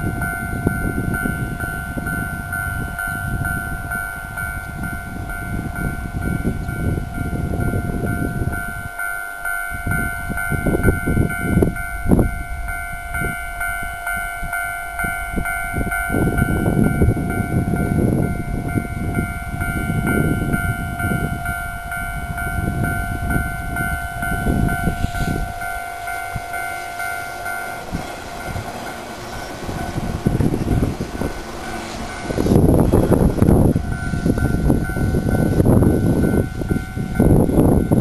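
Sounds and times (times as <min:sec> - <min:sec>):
electric train rumbling past: 0:00.0 - 0:38.0
level crossing bell ringing: 0:00.0 - 0:38.0.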